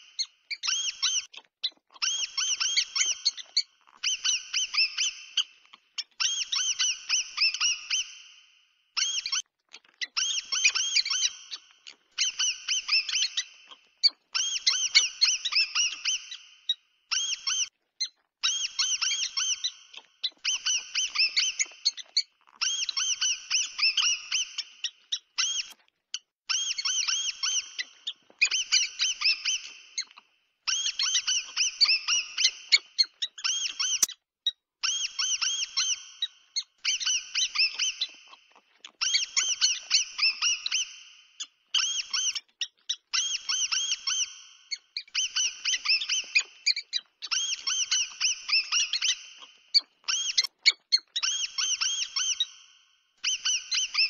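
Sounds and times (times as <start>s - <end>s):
mouse squeaking: 0.0s - 8.2s, 9.0s - 52.6s, 53.2s - 54.0s.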